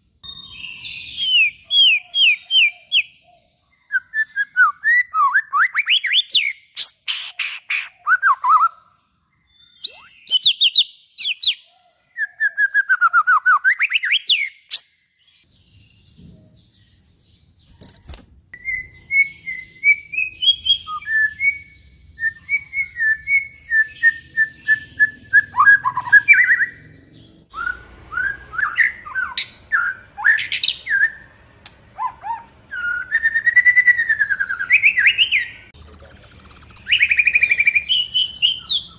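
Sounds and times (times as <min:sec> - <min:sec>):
songbird singing whistles: 0:00.2 - 0:15.5, 0:18.6 - 0:26.9, 0:27.5 - 0:31.4, 0:32.0 - 0:38.9.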